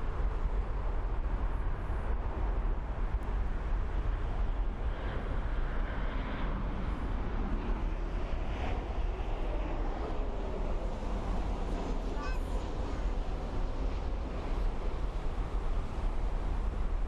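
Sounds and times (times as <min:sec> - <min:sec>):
jet engines low rumble: 0:00.0 - 0:17.0.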